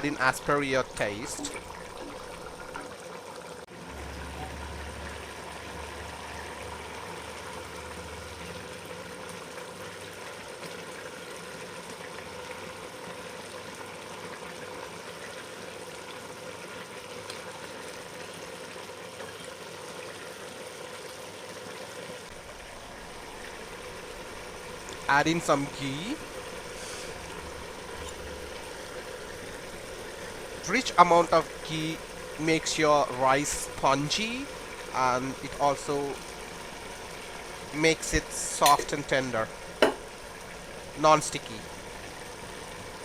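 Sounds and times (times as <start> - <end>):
pot boiling on stove: 0.0 - 43.0.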